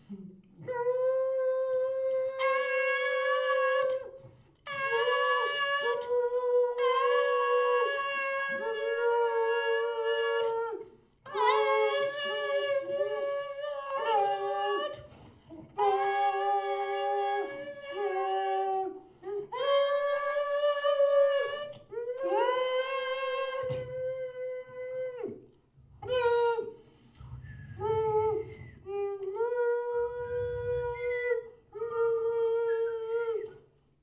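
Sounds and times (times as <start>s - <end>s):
man singing long notes: 0.0s - 25.4s, 26.0s - 33.6s.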